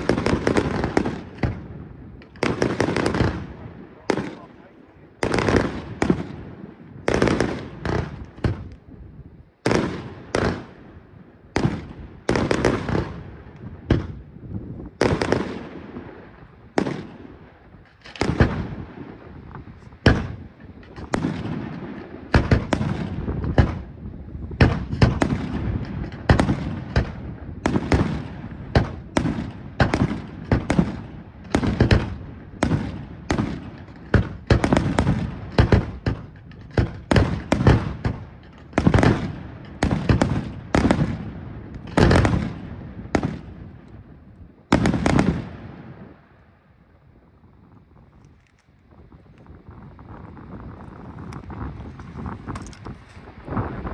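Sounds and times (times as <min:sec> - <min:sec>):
fireworks launching and bursting: 0:00.0 - 0:46.6, 0:47.7 - 0:53.9.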